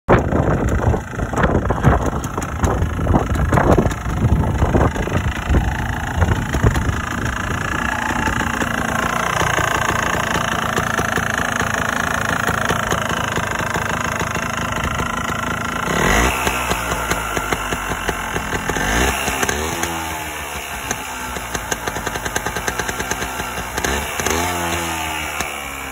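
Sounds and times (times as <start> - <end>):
two-stroke motorcycle engine running: 0.1 - 25.9.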